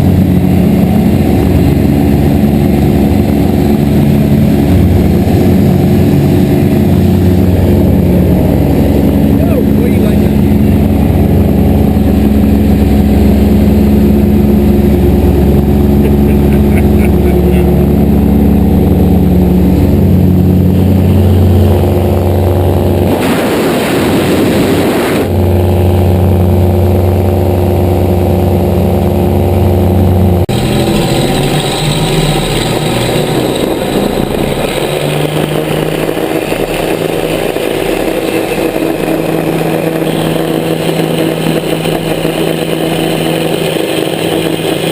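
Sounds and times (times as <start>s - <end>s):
seaplane piston engines running: 0.0s - 44.9s.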